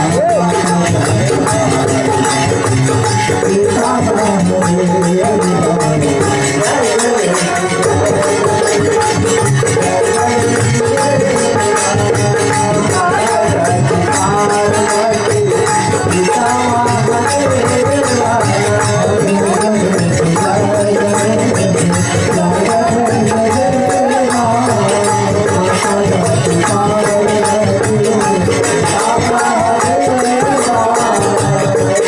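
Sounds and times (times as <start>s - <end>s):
drum beat: 0.0s - 32.0s
jingling hand percussion: 0.0s - 32.0s.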